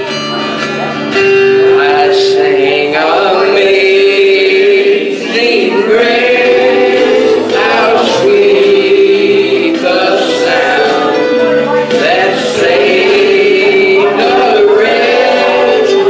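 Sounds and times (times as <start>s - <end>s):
gospel choir singing a hymn: 1.6s - 16.0s.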